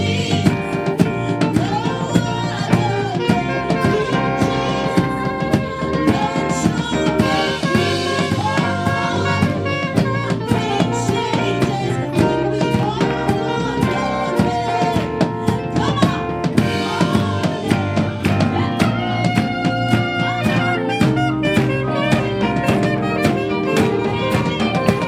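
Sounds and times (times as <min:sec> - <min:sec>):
drum kit beat: 0:00.0 - 0:25.0
gospel band music: 0:00.0 - 0:25.0.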